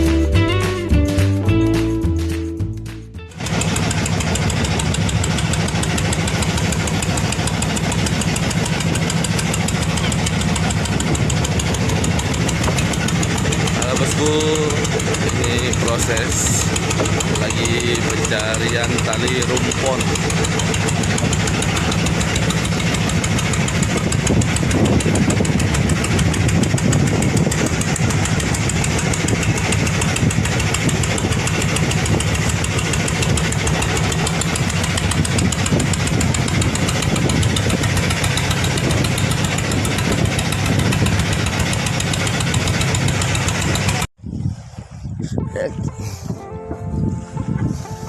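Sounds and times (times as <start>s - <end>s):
boat engine running: 3.3s - 44.1s.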